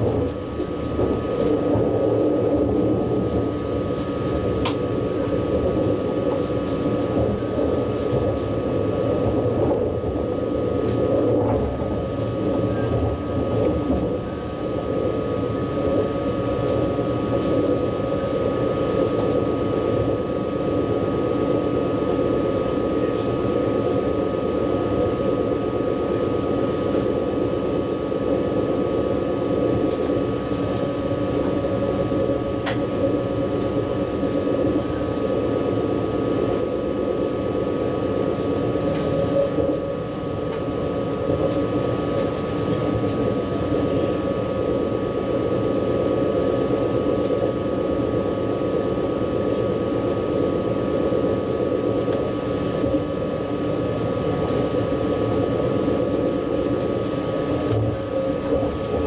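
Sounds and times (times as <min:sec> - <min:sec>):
train running rumble: 0:00.0 - 0:59.0
two-tone whine: 0:00.0 - 0:59.0.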